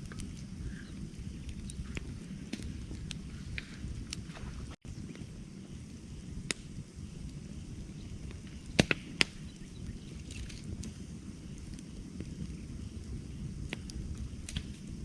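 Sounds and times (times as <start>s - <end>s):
campfire low rumble: 0.0s - 15.0s
wood crackling and popping: 0.0s - 15.0s.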